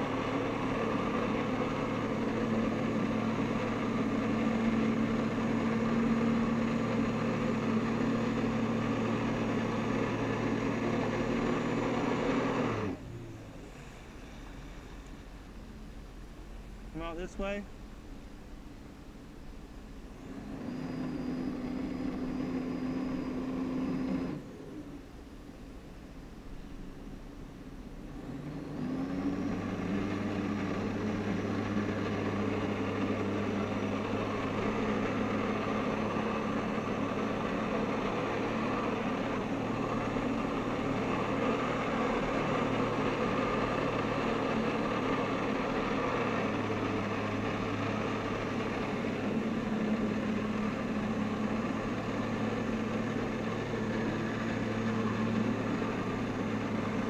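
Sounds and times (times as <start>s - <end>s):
watercraft engine revving: 0.0s - 15.4s, 20.1s - 25.2s, 27.9s - 57.0s.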